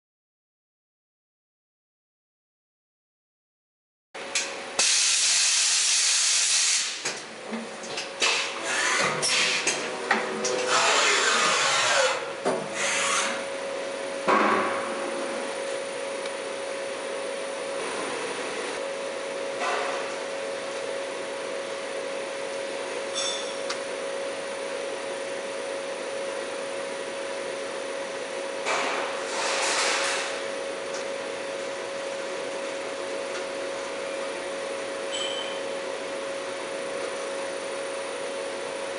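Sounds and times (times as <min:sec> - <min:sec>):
machine humming with steady tone: 0:07.4 - 0:38.9.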